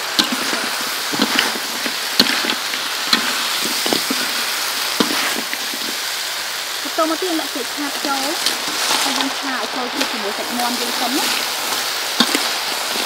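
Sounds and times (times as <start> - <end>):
metal spatula scraping wok: 0.0 - 6.1, 7.9 - 13.0
food sizzling in a wok: 0.0 - 13.0.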